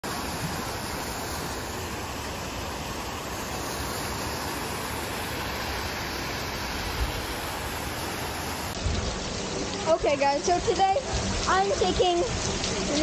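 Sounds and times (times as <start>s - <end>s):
water pouring and splashing: 0.0s - 13.0s.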